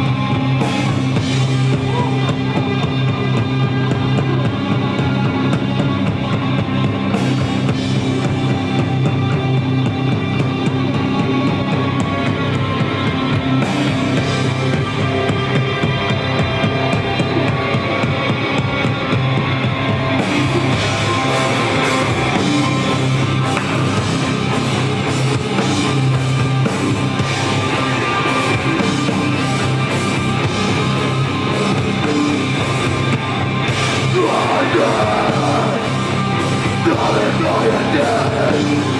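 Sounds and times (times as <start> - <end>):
bass guitar: 0.0 - 38.9
distorted electric guitars: 0.0 - 38.9
drum kit with cymbals: 0.0 - 38.9.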